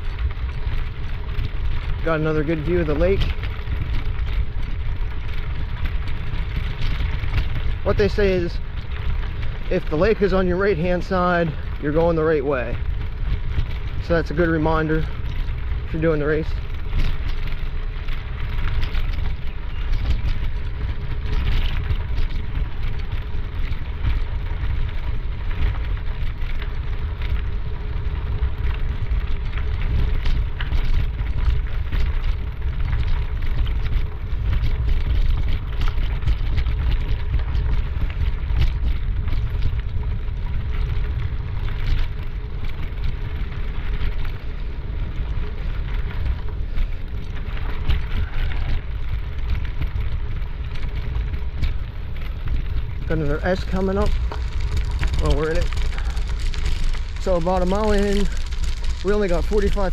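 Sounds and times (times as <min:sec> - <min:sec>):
light continuous crackle: 0:00.0 - 0:59.9
wind rumble on microphone: 0:00.0 - 0:59.9.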